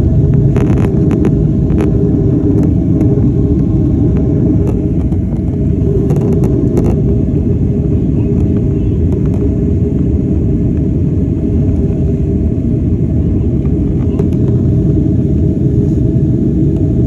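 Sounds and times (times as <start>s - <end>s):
vehicle rumbling in motion: 0.0s - 17.0s.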